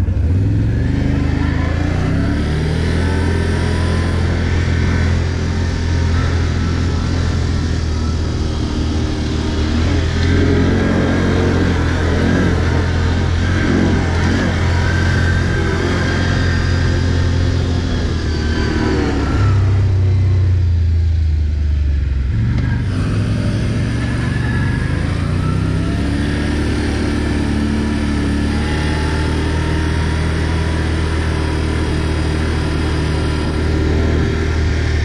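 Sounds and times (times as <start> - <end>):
quad bike engine revving: 0.0 - 21.1, 21.9 - 35.0.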